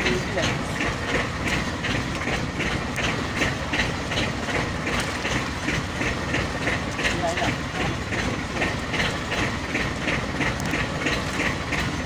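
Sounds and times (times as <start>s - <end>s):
boat engine running: 0.0s - 12.0s
regular engine clacking: 0.0s - 12.0s.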